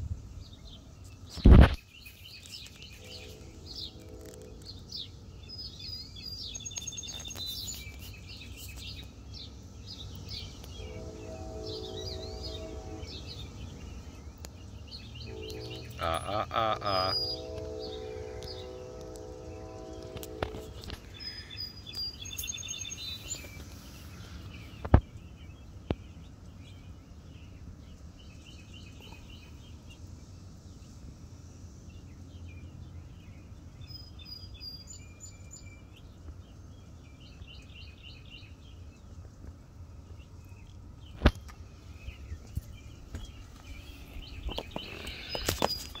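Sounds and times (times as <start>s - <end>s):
birds chirping: 0.2s - 46.0s.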